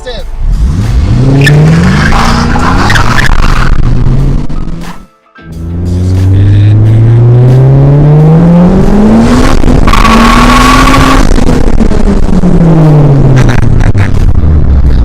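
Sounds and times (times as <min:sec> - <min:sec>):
car engine revving: 0:00.4 - 0:15.0.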